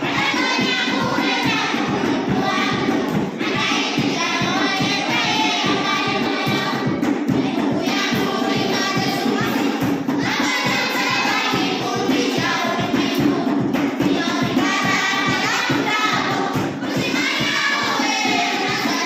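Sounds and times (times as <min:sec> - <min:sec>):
children singing in unison: 0:00.0 - 0:19.0
steady thumping beat: 0:00.0 - 0:19.0.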